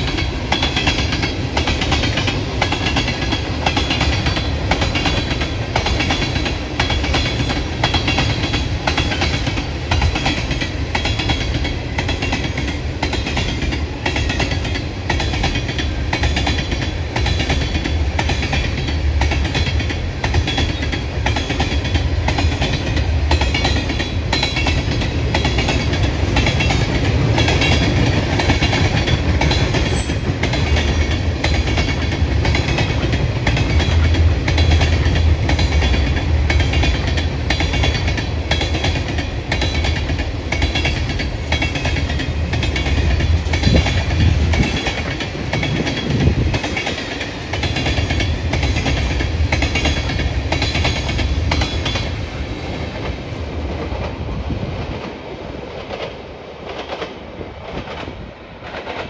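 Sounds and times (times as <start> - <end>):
low rumble of train: 0.0 - 59.0
train wheels clicking over rail joints: 0.0 - 59.0.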